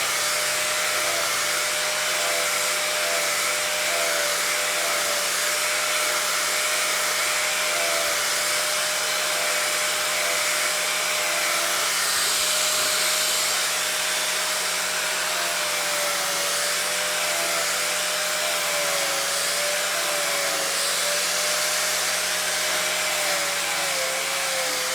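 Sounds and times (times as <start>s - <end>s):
small electric motor humming: 0.0s - 24.9s.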